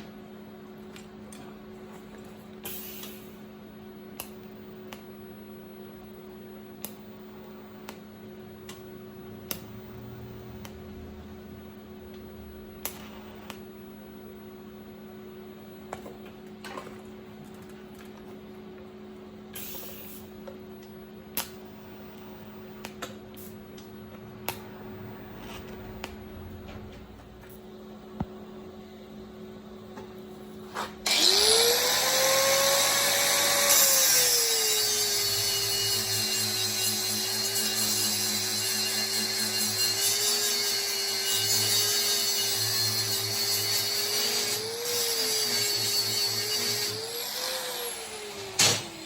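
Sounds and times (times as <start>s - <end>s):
welding equipment humming: 4.2s - 49.0s.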